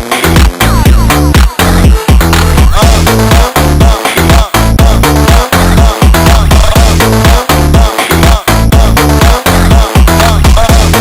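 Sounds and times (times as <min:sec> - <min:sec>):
electronic dance music: 0:00.0 - 0:11.0
heavy bass beat: 0:00.0 - 0:11.0.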